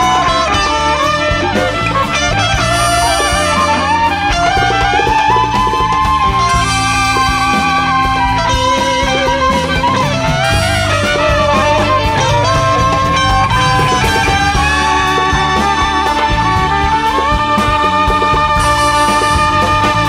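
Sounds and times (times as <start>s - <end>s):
jazz band playing: 0.0s - 20.0s
steady drum kit: 0.0s - 20.0s.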